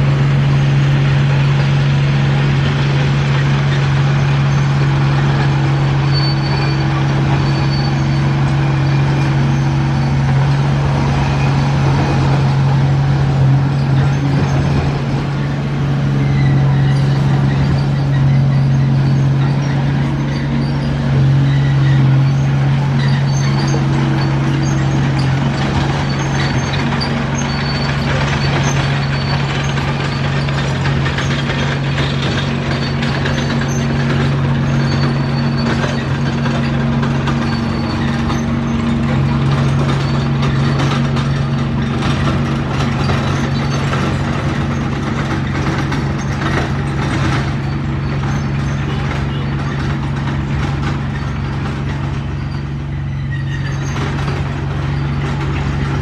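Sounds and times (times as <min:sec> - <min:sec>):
bulldozer diesel engine running: 0:00.0 - 0:56.0
faint high clicks and squeaks: 0:04.2 - 0:12.5, 0:13.7 - 0:56.0.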